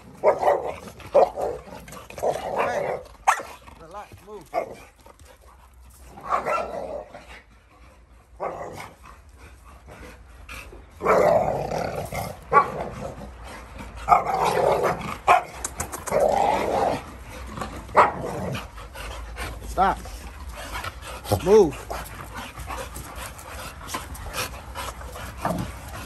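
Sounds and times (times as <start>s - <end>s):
dogs growling and barking: 0.0s - 26.0s.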